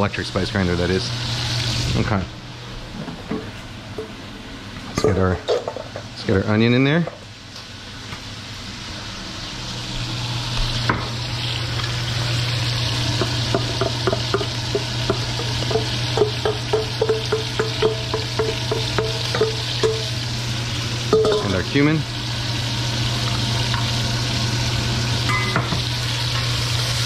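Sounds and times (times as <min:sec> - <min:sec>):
onion sizzling in a pot: 0:00.0 - 0:02.3, 0:03.6 - 0:27.0.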